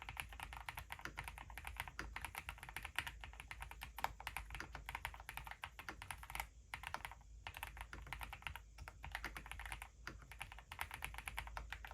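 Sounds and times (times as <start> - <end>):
fast typing on mechanical keyboard: 0.0 - 11.9.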